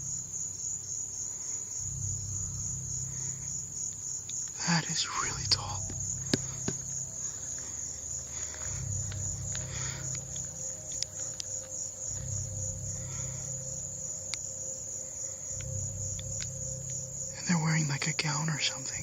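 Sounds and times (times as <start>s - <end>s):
crickets chirping: 0.0s - 19.0s
low hum: 0.0s - 19.0s.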